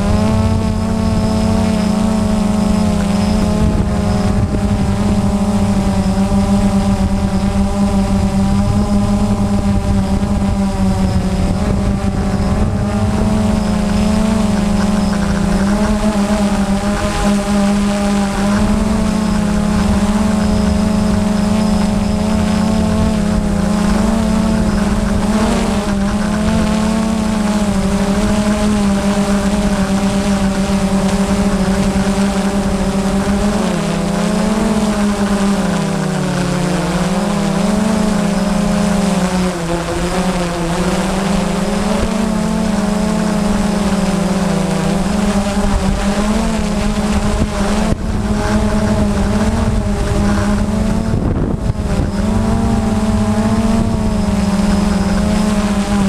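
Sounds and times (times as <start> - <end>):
drone propellers whirring: 0.0 - 56.0.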